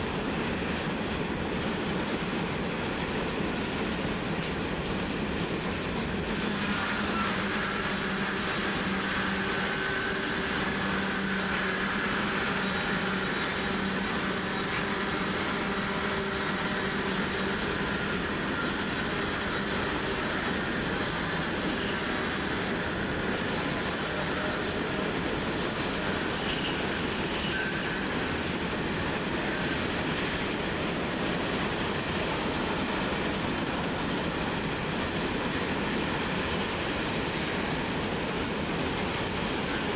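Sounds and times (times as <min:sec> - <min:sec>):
freight train rolling: 0:00.0 - 0:39.9
wagons clacking over rail joints: 0:00.1 - 0:39.9.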